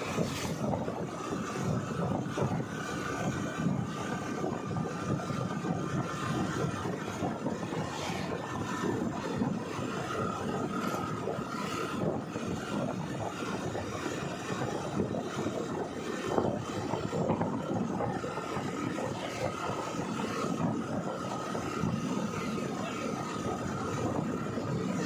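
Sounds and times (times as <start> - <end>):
road and air rush: 0.0 - 25.0
vehicle engine running: 0.0 - 25.0.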